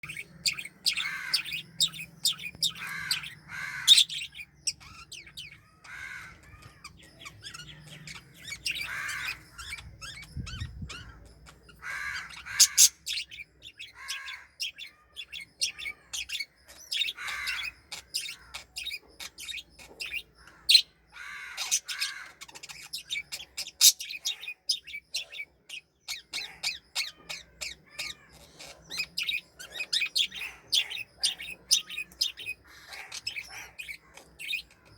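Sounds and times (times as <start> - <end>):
cockatiel chirping and calling: 0.0 - 34.9.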